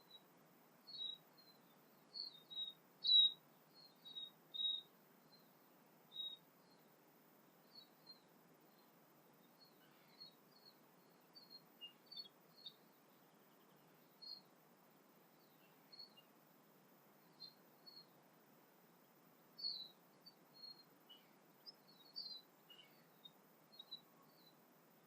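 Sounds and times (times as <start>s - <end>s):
faint steady hiss: 0.0s - 25.0s
songbirds chirping: 0.0s - 25.0s.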